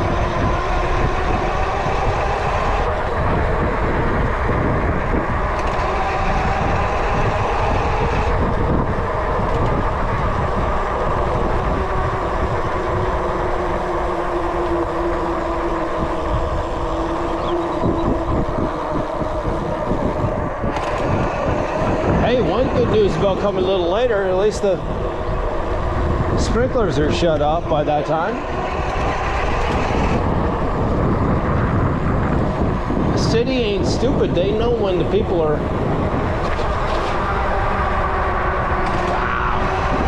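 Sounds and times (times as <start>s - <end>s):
bike tyres rumbling: 0.0s - 40.0s
faint hum: 0.0s - 40.0s.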